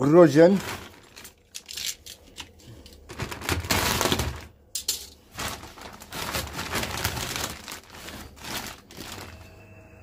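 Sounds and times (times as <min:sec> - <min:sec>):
plastic sack crinkling: 0:00.0 - 0:09.8.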